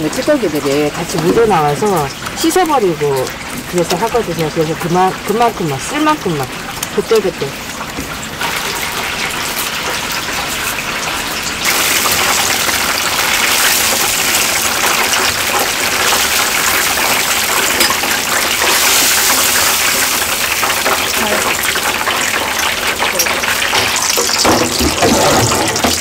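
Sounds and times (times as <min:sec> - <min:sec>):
tap water running: 0:00.0 - 0:26.0.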